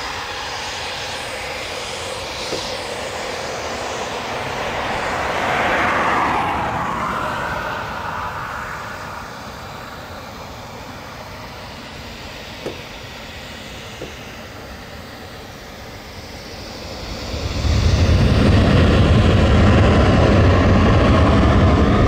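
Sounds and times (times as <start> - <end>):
jet engines taxiing: 0.0 - 22.0.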